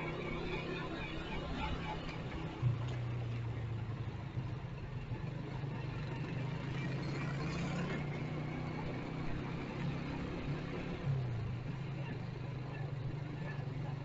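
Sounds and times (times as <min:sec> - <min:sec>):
small motorcycle engine running: 0:00.0 - 0:14.0
traffic and road noise: 0:00.0 - 0:14.0.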